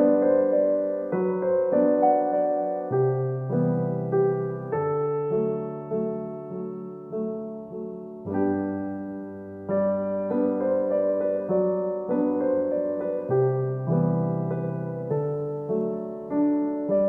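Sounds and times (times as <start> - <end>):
gentle piano chords: 0.0 - 17.0.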